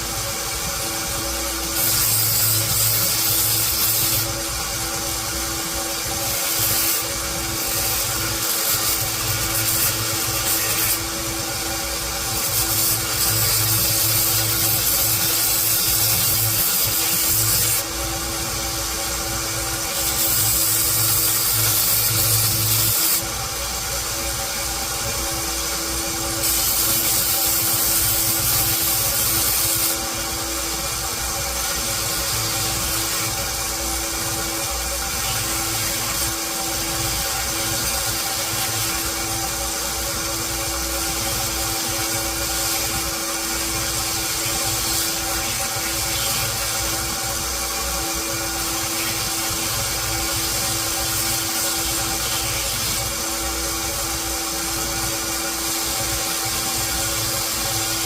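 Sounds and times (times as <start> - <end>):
metal grinding hiss: 0.0 - 58.0
power grinder running: 0.0 - 58.0.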